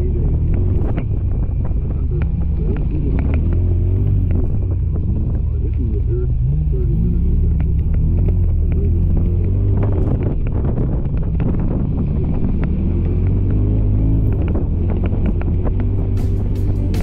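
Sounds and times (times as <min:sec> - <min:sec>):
vehicle engine rumbling: 0:00.0 - 0:17.0
wind buffeting microphone: 0:00.0 - 0:17.0.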